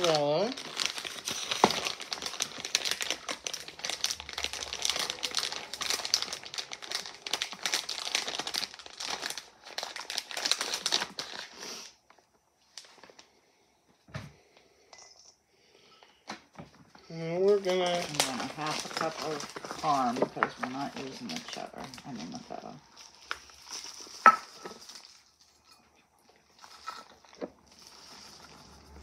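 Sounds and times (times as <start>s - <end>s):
plastic bag crinkling: 0.0s - 13.3s, 17.0s - 29.0s.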